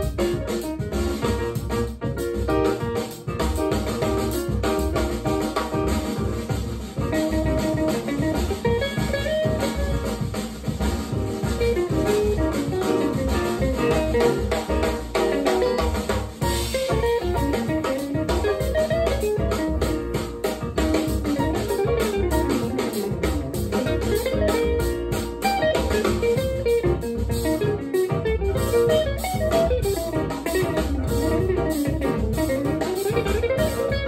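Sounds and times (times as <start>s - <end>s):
band music through loudspeakers: 0.0s - 34.0s.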